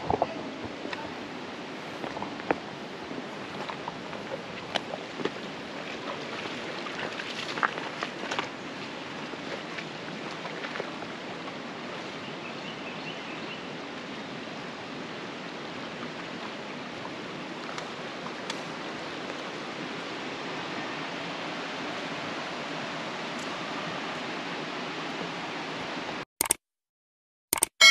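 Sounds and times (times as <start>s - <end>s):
creek flowing over stones: 0.0s - 26.2s.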